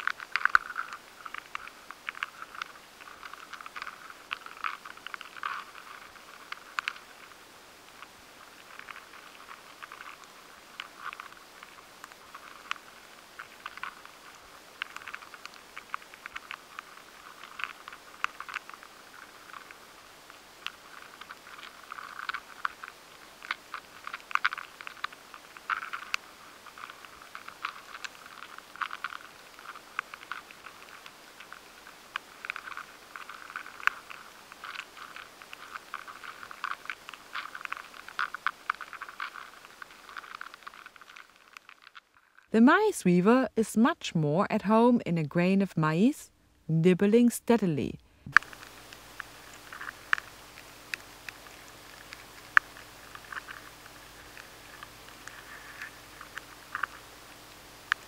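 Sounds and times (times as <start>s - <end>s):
insect ticks and scratches: 0.0s - 42.9s, 48.3s - 58.0s
steady hiss: 0.0s - 44.9s, 45.9s - 58.0s.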